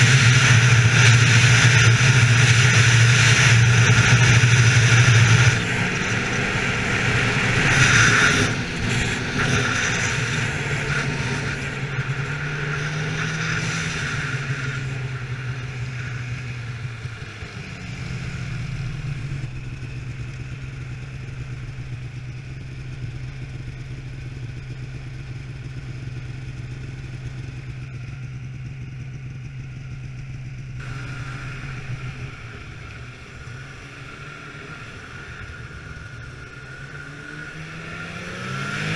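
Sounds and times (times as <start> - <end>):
snowmobile engine running: 0.0 - 38.9
snowmobile track noise: 0.0 - 38.9.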